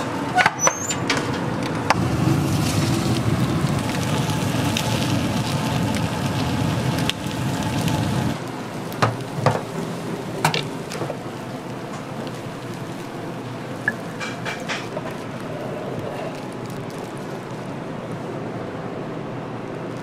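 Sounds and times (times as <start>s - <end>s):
meat sizzling and crackling: 2.0s - 18.2s.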